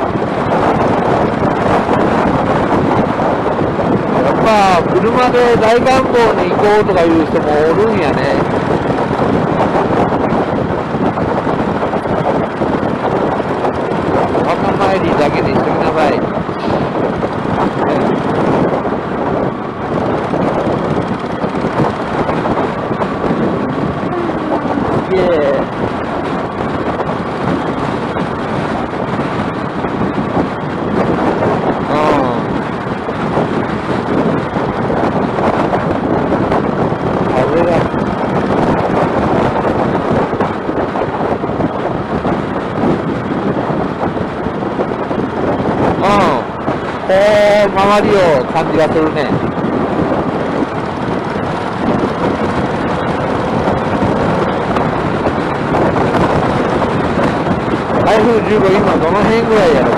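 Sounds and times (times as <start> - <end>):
vehicle and road noise: 0.0 - 59.9
wind buffeting the microphone: 0.0 - 59.9.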